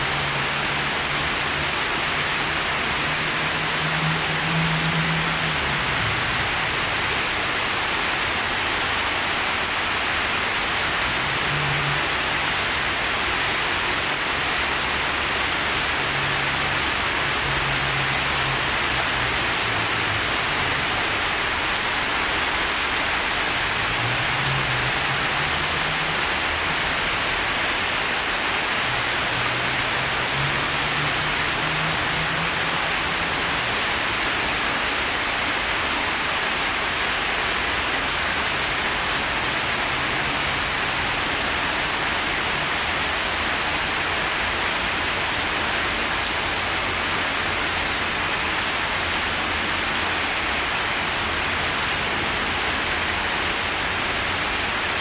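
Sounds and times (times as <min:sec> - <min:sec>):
heavy rain splashing: 0:00.0 - 0:55.0.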